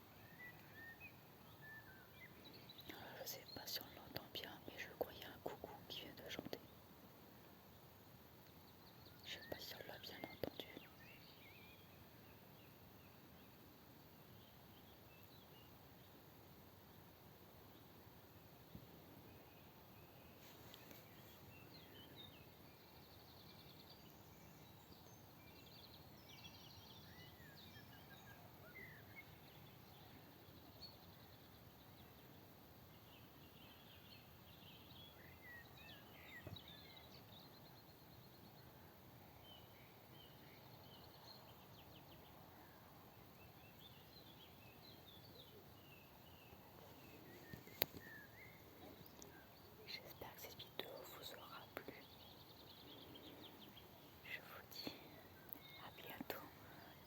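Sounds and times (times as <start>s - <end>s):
quiet hiss: 0.0s - 57.0s.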